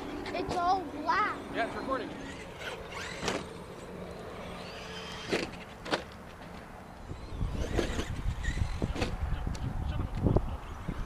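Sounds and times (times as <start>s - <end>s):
rc truck motor whine: 0.0s - 9.6s.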